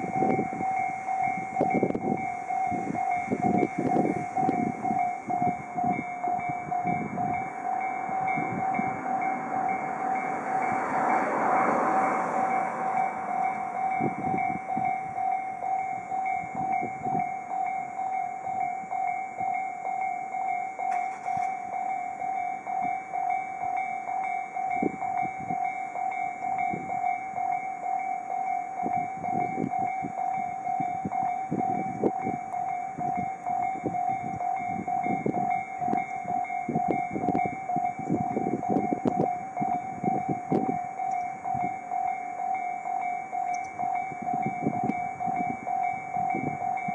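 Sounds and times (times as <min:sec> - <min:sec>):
level crossing warning bells: 0:00.0 - 0:46.9.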